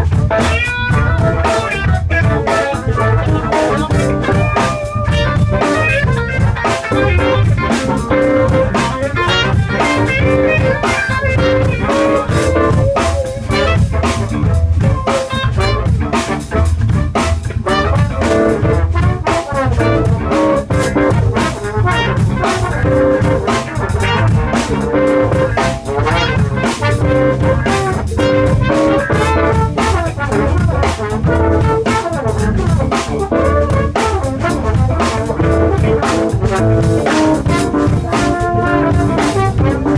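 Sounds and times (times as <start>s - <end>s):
live band playing: 0.0s - 39.9s
steady drum beat: 0.0s - 39.9s.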